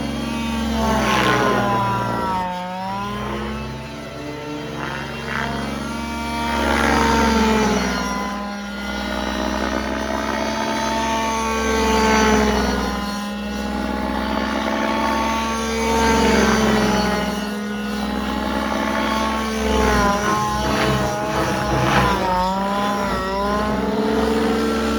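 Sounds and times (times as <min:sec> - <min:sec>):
rc helicopter engine passing: 0:00.0 - 0:24.9.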